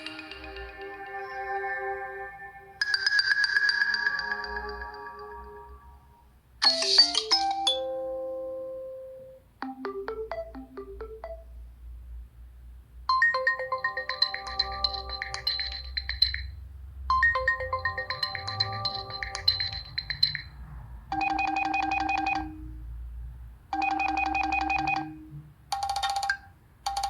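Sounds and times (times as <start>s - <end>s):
phone ringtone melody: 0.0s - 2.2s, 2.8s - 6.0s, 6.6s - 11.6s, 13.1s - 22.8s, 23.7s - 27.0s.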